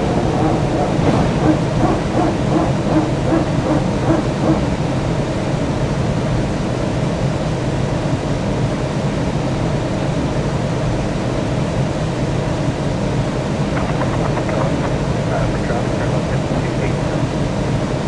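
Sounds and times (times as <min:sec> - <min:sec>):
jet airliner rumble and hiss: 0:00.0 - 0:18.0.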